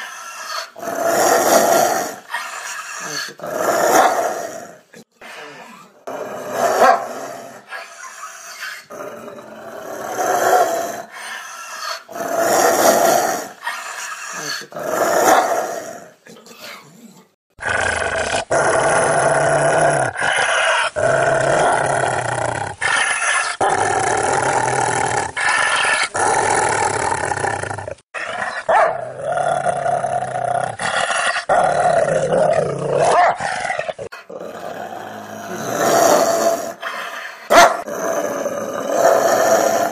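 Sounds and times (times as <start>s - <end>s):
dog growling and barking: 0.0s - 5.1s, 5.9s - 39.9s.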